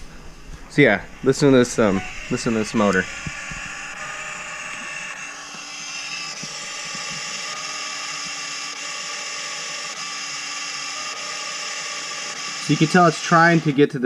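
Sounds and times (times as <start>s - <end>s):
electric actuator motor whirring: 0.0s - 14.0s.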